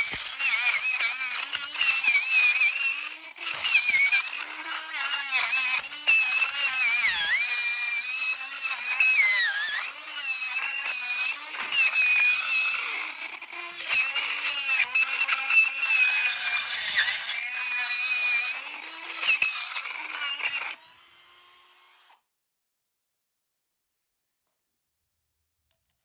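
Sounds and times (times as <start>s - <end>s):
rotary tool drilling metal: 0.0s - 22.2s.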